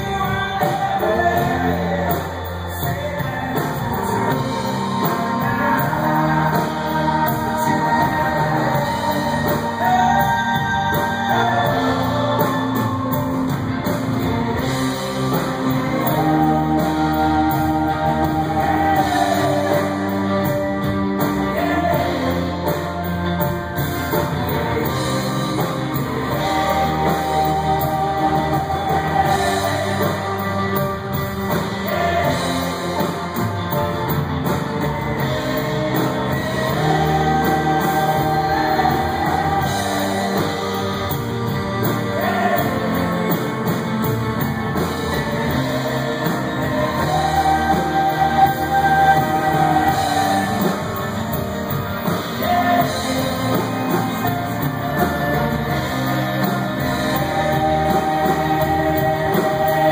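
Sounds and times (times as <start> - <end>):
bass guitar: 0.0 - 59.9
drums: 0.0 - 59.9
person singing: 0.0 - 59.9
piano: 0.0 - 59.9
upright bass: 0.0 - 59.9.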